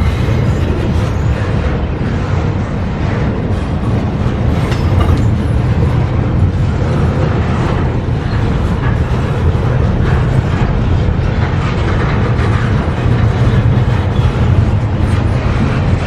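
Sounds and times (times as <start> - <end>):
freight train rolling past: 0.0 - 16.0
wheel-on-rail clatter: 0.0 - 16.0.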